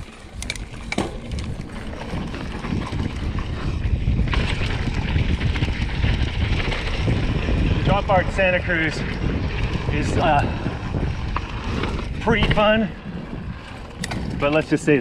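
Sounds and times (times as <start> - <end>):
bike tyres rumbling on dirt: 0.0 - 15.0
wind rushing over microphone: 0.0 - 15.0.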